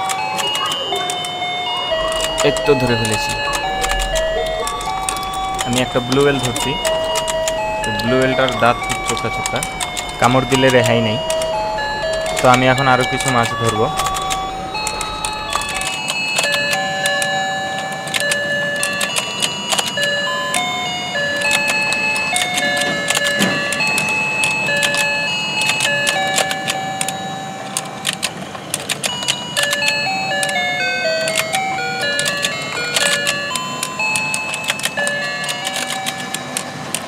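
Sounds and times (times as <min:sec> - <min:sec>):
electronic beeping melody: 0:00.0 - 0:37.0.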